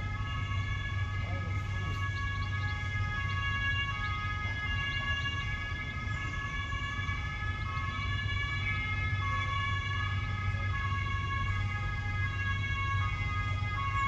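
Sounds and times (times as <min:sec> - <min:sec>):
emergency sirens: 0:00.0 - 0:14.0.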